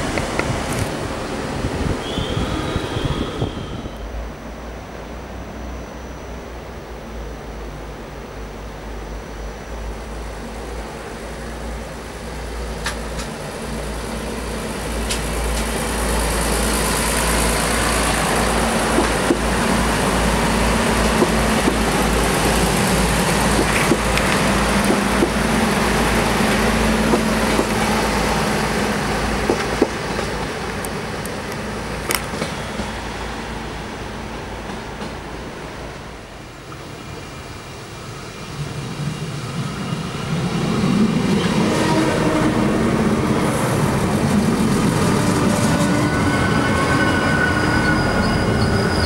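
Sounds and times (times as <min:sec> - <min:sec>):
diesel train engine drone: 0:00.0 - 0:49.0.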